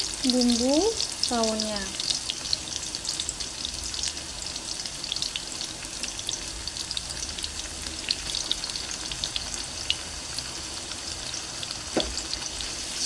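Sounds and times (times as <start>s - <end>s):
spice paste sizzling in oil: 0.0s - 13.0s.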